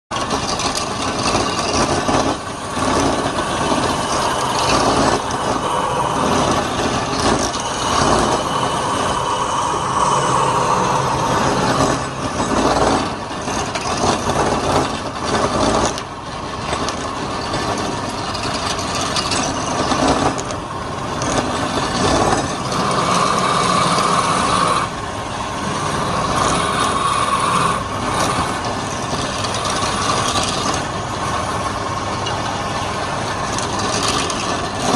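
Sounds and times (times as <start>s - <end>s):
wood lathe cutting wood: 0.1s - 34.9s.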